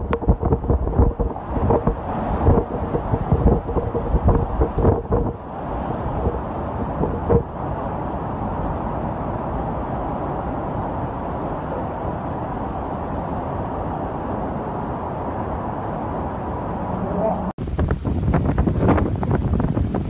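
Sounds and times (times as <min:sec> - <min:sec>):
driving rain: 0:00.0 - 0:20.0
wind: 0:00.0 - 0:20.0.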